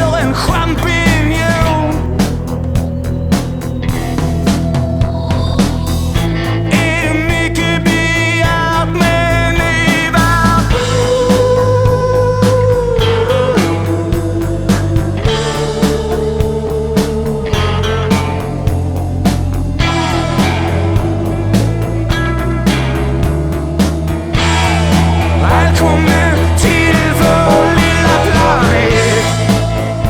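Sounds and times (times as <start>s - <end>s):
rock music with drum beat: 0.0s - 30.0s.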